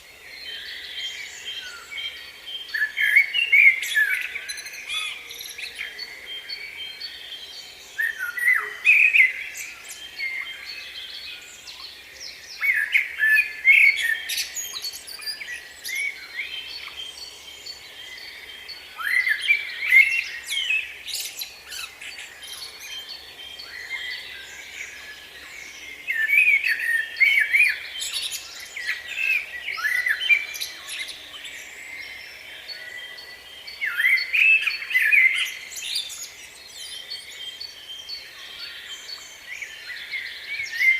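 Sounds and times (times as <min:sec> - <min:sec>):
faint bird chirps: 0:00.0 - 0:40.9
songbird singing: 0:00.0 - 0:40.9.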